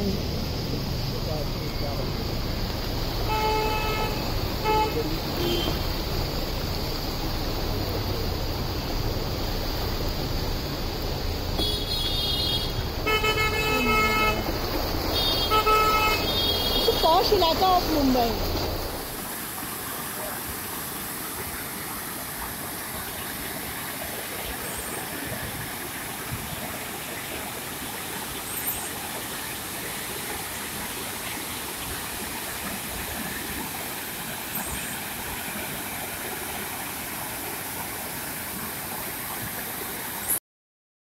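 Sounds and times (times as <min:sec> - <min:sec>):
floodwater rushing: 0:00.0 - 0:40.4.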